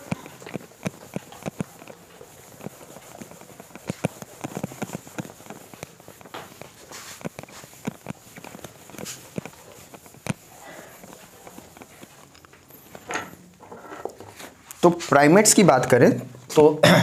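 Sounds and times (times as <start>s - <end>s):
cloth rubbing a whiteboard: 0.0s - 15.6s.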